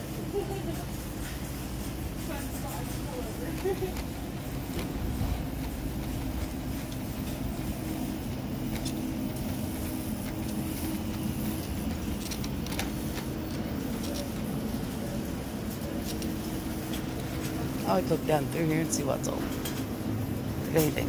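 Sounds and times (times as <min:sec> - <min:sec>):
steady hum: 0:00.0 - 0:21.0
cart wheels rolling on tiles: 0:02.2 - 0:19.9.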